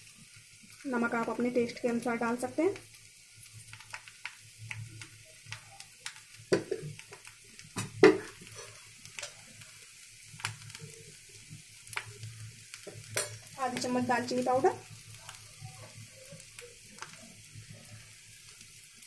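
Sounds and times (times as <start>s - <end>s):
food frying in oil: 0.0s - 19.0s.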